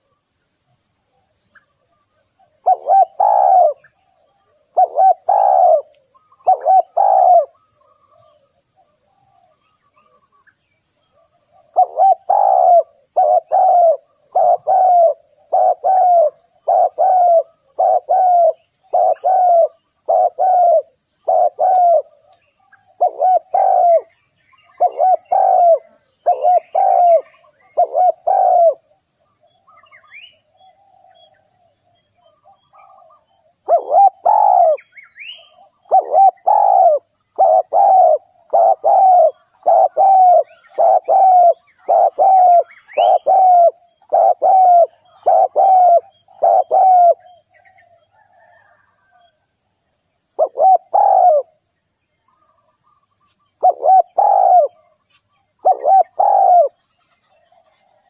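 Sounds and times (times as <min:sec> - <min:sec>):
small birds chirping: 0:00.0 - 0:49.4, 0:50.3 - 0:58.0
dove cooing: 0:01.7 - 0:10.3, 0:11.2 - 0:29.0, 0:29.7 - 0:49.4, 0:50.4 - 0:51.6, 0:53.6 - 0:55.0, 0:55.6 - 0:56.8.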